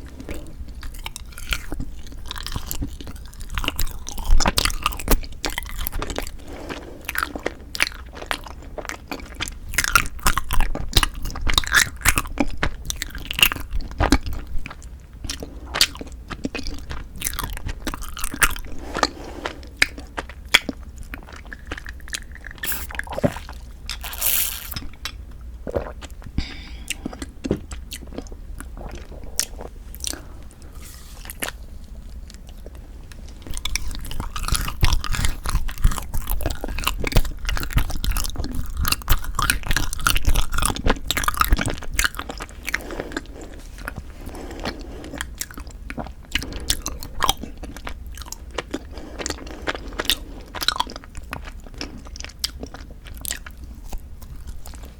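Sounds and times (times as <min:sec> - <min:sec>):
biting and chewing mouth sounds: 0:00.0 - 0:54.9.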